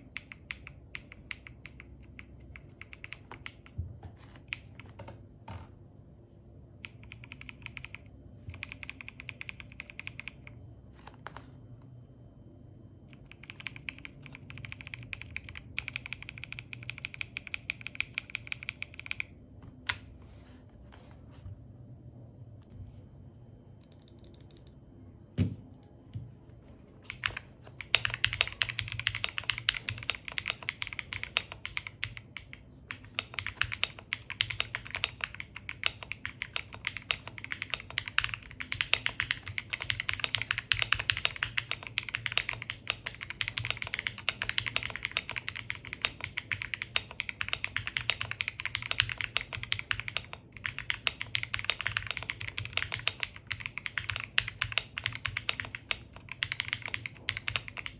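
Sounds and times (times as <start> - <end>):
mechanical keyboard typing: 0.0 - 5.1, 6.8 - 10.6, 13.1 - 19.3, 23.8 - 24.8, 27.1 - 57.9.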